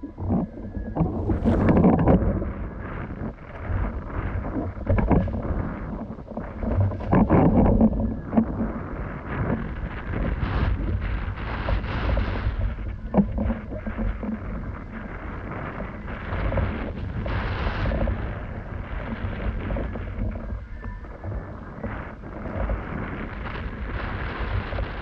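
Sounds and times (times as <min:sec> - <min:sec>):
rushing water: 0:00.0 - 0:25.0
wind buffeting the microphone: 0:00.0 - 0:25.0.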